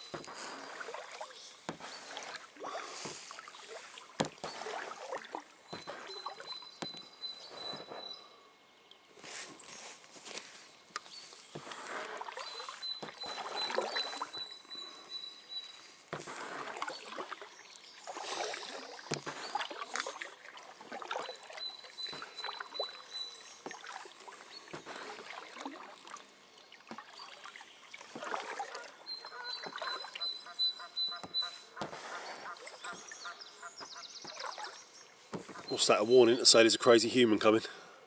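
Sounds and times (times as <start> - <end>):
paddle splashing through water: 0.0 - 8.1, 11.4 - 35.9.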